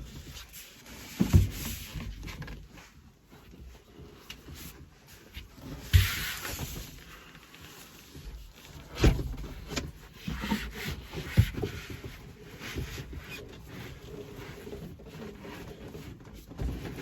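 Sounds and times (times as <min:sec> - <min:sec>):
rubbing and scraping: 0:00.0 - 0:17.0.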